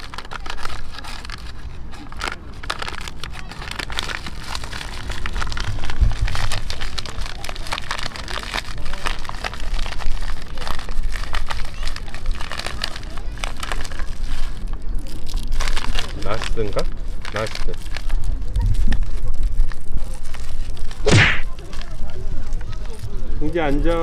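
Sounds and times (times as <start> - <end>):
paper packet crinkling: 0.0 - 21.4.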